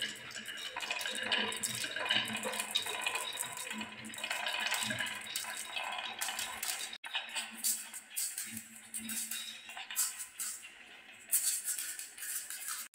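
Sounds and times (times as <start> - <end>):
marbles clicking on wooden tracks: 0.0 - 10.6.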